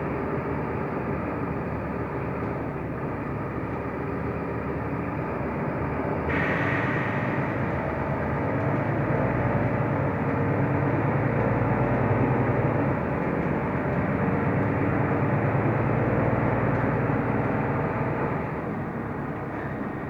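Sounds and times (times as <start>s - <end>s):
bus engine drone: 0.0s - 20.0s
road noise: 0.5s - 20.0s.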